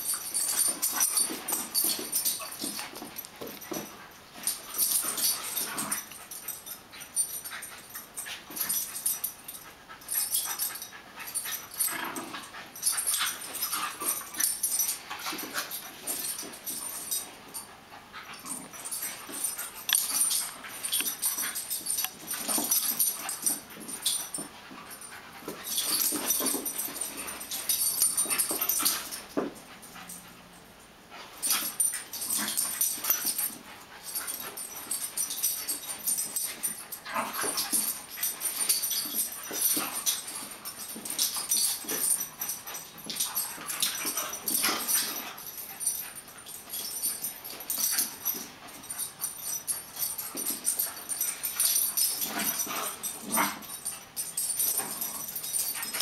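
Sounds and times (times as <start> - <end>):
dogs play-fighting vocalizing: 0.0 - 56.0.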